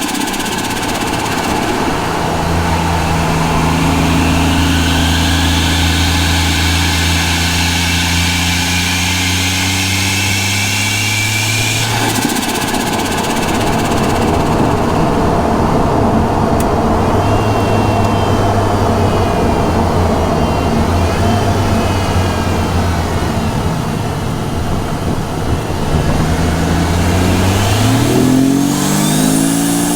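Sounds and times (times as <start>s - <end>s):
turbo fluttering: 0.0s - 23.1s, 25.9s - 29.9s
car engine revving: 0.0s - 29.9s
turbo whine: 0.0s - 29.9s.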